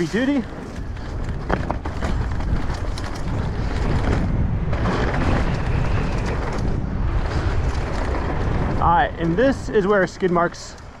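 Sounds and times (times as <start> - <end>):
bike clicks and knocks: 0.0 - 11.0
wind buffeting microphone: 0.0 - 11.0.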